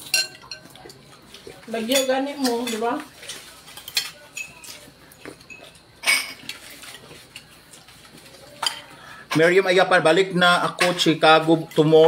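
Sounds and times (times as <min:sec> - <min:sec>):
plates and cutlery clinking: 0:00.0 - 0:12.0.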